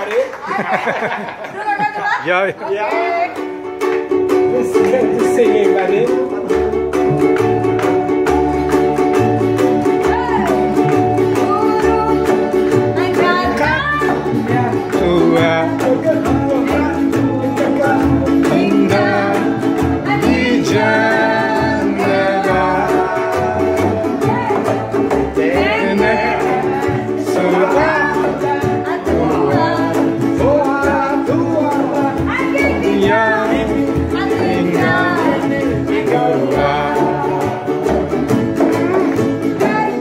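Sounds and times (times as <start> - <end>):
upright bass plucking: 2.2 - 40.0
small ukulele strumming: 2.8 - 40.0
person singing: 4.4 - 40.0.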